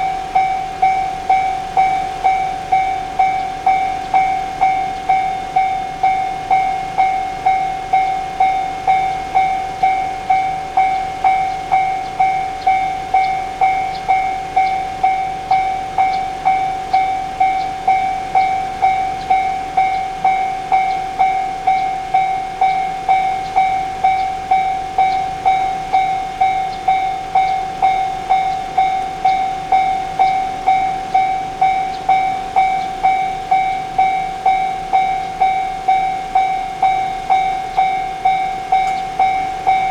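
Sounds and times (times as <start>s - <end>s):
level crossing warning bell: 0.0s - 39.9s.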